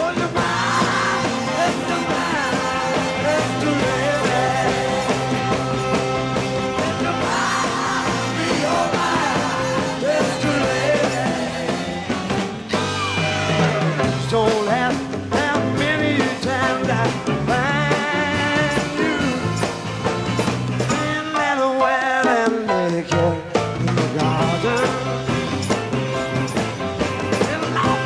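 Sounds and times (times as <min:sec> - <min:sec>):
rock song with singer: 0:00.0 - 0:28.0.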